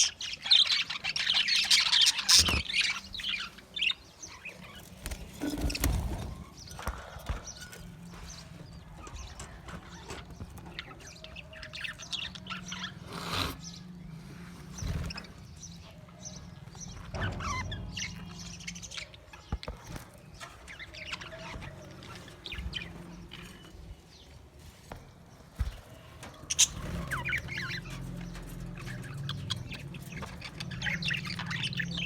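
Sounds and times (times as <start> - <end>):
budgerigars chirping and warbling: 0.0 - 32.0.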